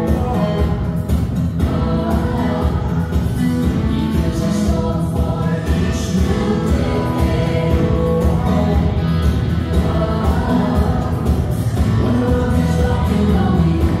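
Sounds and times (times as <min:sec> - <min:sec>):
voices singing over instrumental backing: 0:00.0 - 0:14.0.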